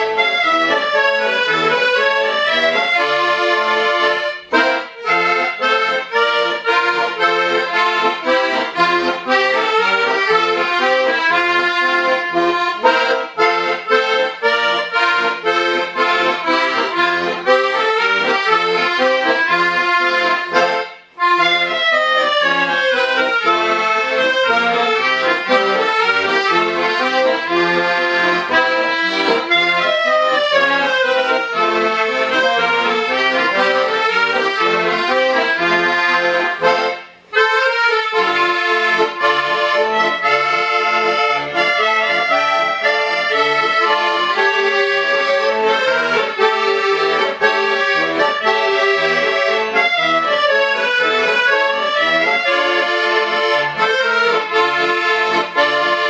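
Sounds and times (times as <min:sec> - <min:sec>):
accordion ensemble playing folk dance: 0:00.0 - 0:56.0.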